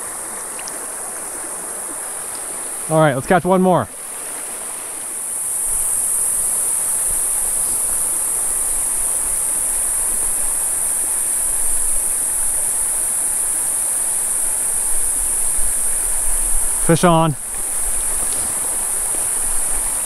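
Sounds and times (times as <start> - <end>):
creek rushing over rocks: 0.0 - 20.0
insects chorus: 0.0 - 20.0.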